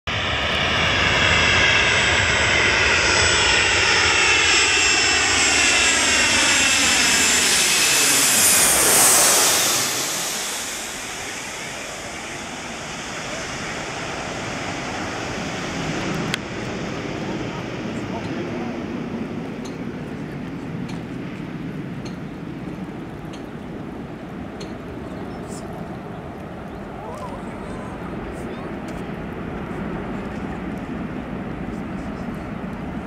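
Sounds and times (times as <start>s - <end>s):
jet airliner passing: 0.1s - 33.0s.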